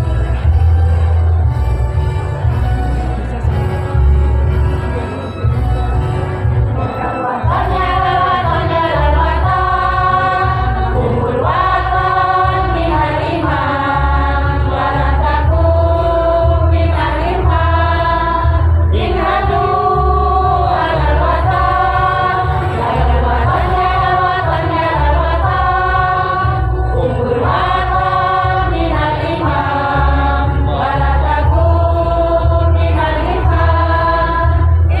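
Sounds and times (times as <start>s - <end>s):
women's choir singing: 6.8s - 35.0s.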